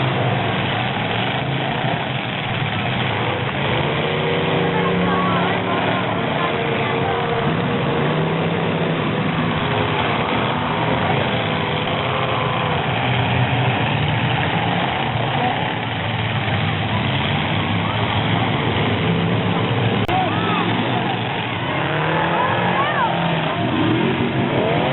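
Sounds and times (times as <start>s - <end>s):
crowd chatter: 0.0s - 24.9s
truck engines idling: 0.0s - 24.9s.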